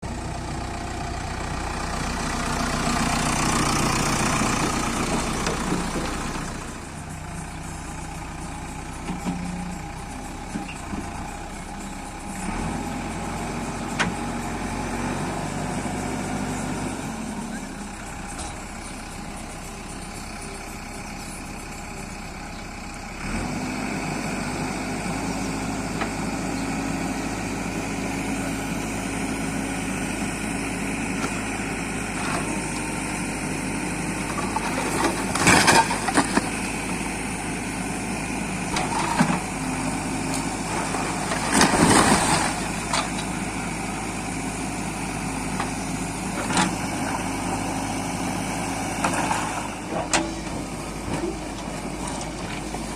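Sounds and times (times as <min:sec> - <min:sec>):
diesel engine running: 0:00.0 - 0:52.9
loud working noise surges: 0:04.3 - 0:52.9.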